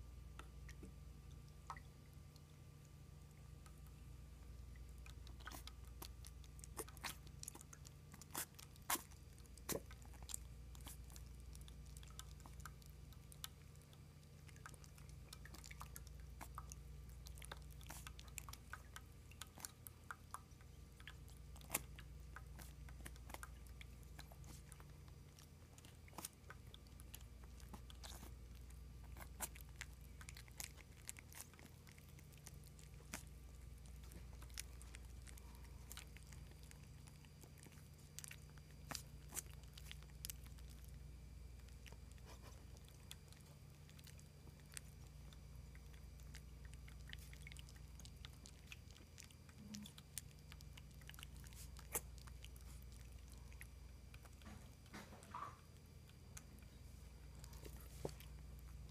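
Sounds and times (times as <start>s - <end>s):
puppies lapping water: 0.2s - 58.9s.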